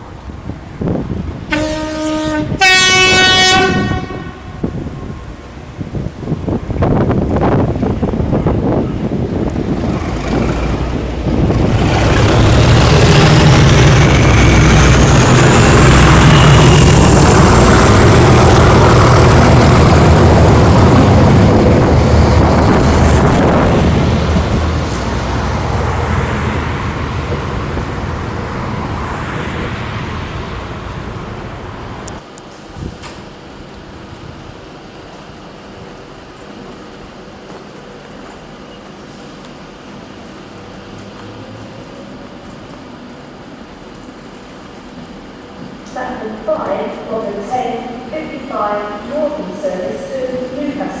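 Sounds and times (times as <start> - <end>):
diesel locomotive engine: 0.0 - 51.0.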